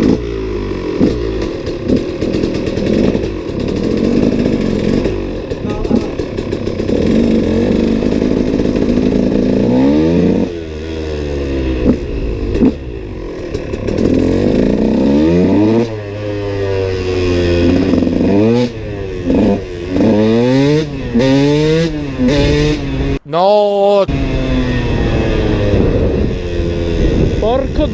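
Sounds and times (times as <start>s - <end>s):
dirt bike engine revving: 0.0s - 23.2s, 24.0s - 27.9s.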